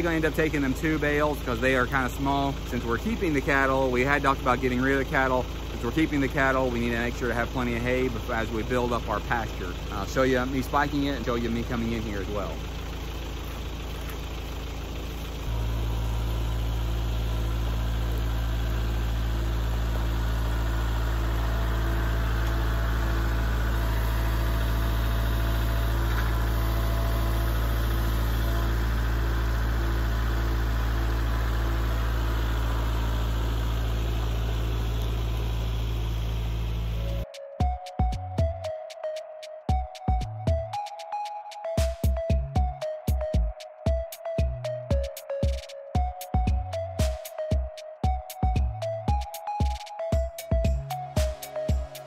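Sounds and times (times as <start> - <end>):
tractor diesel engine running: 0.0 - 40.9, 41.7 - 52.0.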